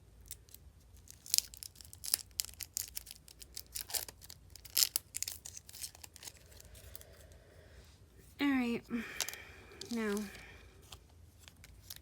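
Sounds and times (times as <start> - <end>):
packaging crinkling and tearing: 0.2 - 7.1, 9.1 - 12.0.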